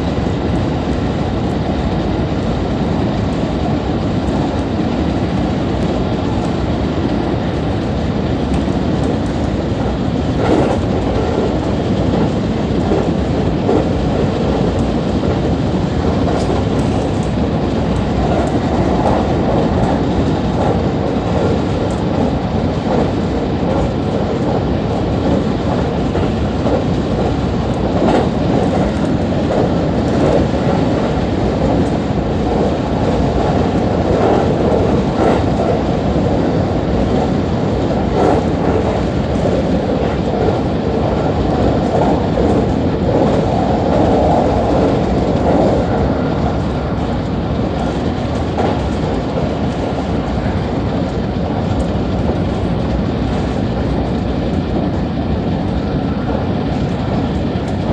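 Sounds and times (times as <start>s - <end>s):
rail joint clicks: 0.0s - 57.9s
train wheels rumbling on rail: 0.0s - 57.9s.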